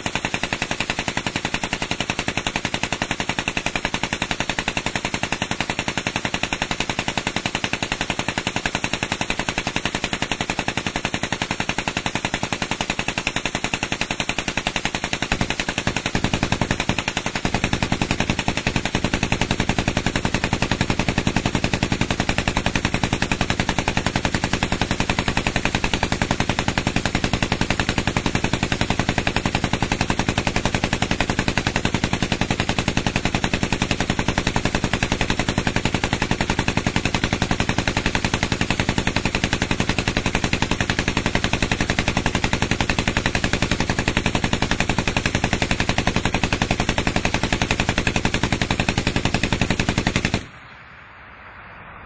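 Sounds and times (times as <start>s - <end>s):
machine gun full-auto burst: 0.0s - 50.6s.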